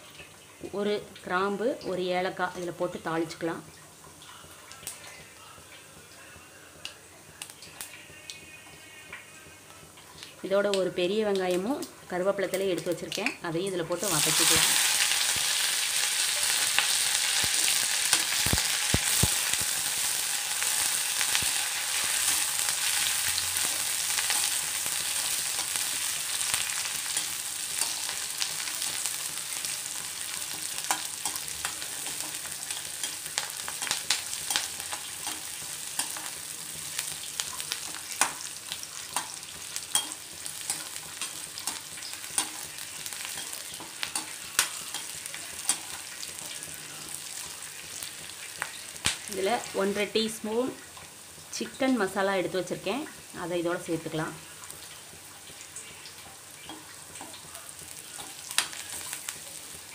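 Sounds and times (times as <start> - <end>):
onion sizzling in hot oil: 0.0 - 59.9.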